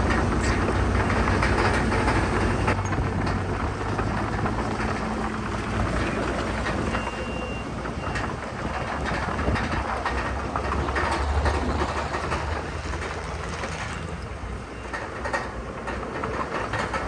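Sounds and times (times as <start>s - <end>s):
bulldozer diesel engine: 0.0s - 17.0s
steel crawler tracks clattering: 0.0s - 17.0s.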